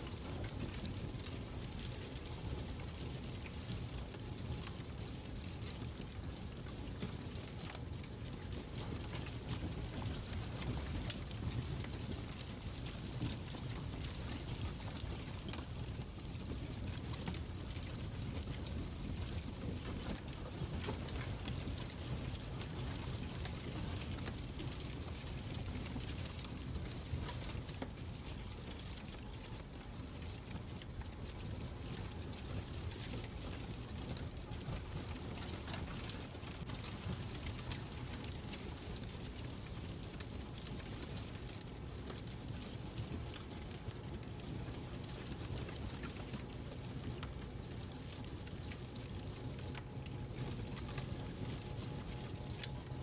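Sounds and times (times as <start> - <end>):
fireplace fire burning and crackling: 0.0 - 53.0.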